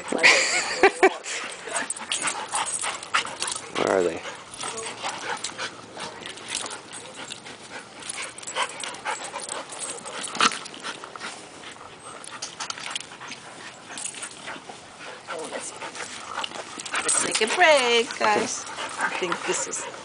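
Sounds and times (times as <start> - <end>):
dog breathing: 1.2 - 20.0
dogs scuffling: 1.2 - 20.0.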